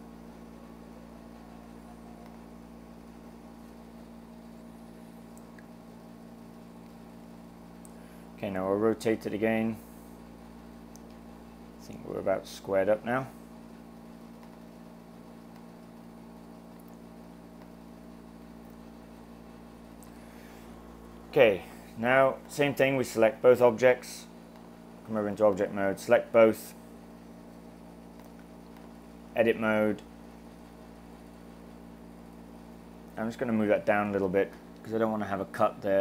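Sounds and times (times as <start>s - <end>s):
low electrical hum with hiss: 0.0s - 36.0s.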